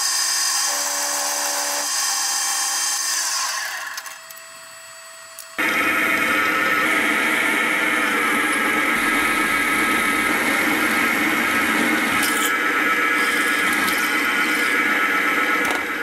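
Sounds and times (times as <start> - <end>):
milling machine whine: 0.0 - 16.0.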